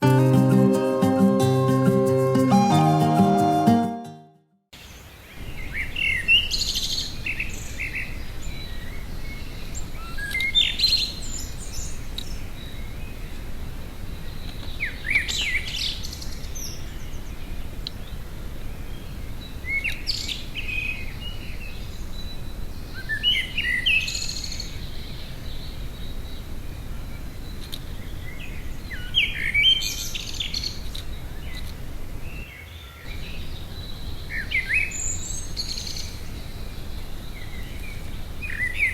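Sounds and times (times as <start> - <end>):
songbird singing: 4.8 - 38.9.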